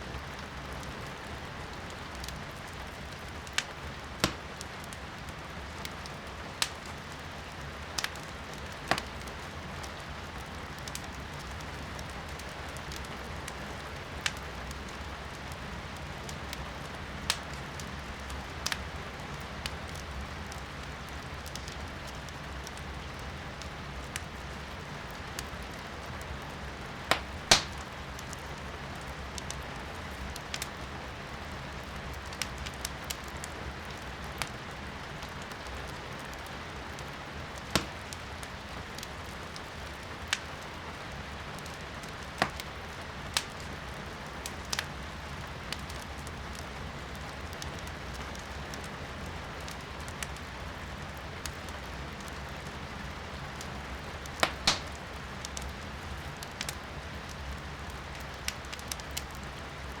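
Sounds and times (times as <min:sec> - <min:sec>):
rain hissing heard indoors: 0:00.0 - 1:00.0
firewood crackling and popping: 0:00.2 - 1:00.0.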